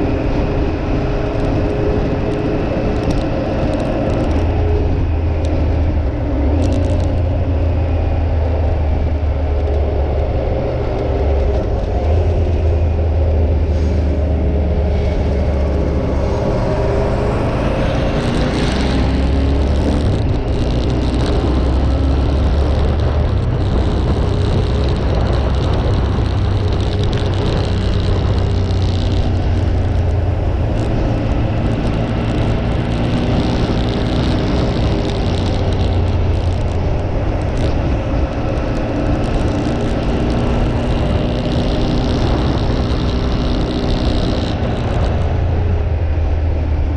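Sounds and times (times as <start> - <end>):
constant rush of noise: 0.0 - 46.9
motorcycle engine running: 0.0 - 46.9.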